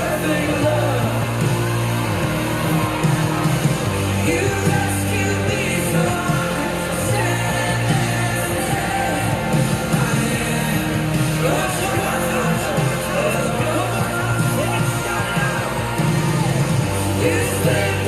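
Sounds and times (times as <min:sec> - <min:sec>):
band playing worship music: 0:00.0 - 0:18.0
voices singing: 0:00.0 - 0:18.0.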